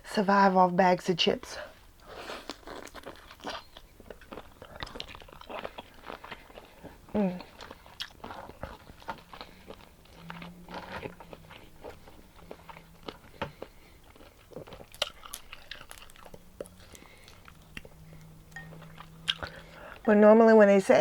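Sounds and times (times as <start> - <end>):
person chewing seafood: 1.8 - 20.0.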